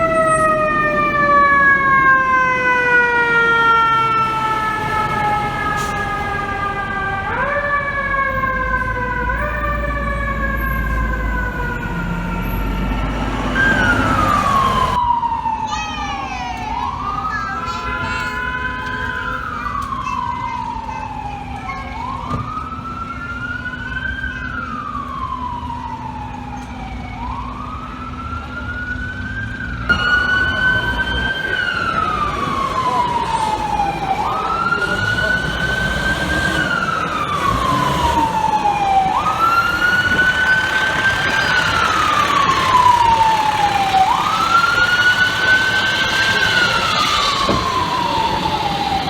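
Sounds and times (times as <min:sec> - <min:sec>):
fire truck siren wailing: 0:00.0 - 0:49.0
street noise: 0:00.0 - 0:49.0.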